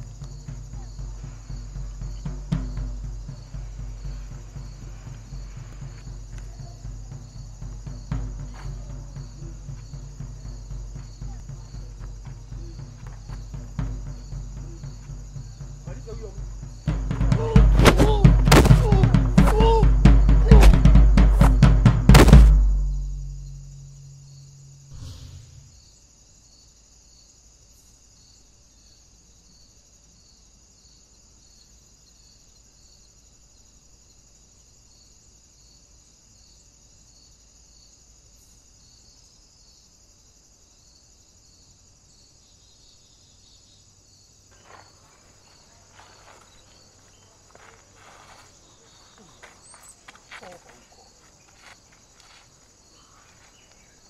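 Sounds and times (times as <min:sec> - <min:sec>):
constant high hiss: 0:00.0 - 0:54.0
insects chirping: 0:00.0 - 0:54.0.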